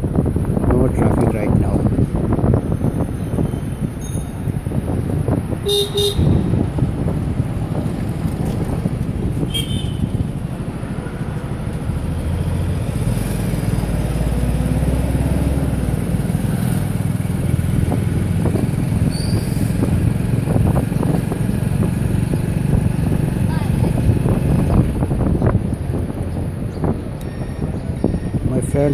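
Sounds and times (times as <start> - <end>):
road and wind noise: 0.0 - 28.9.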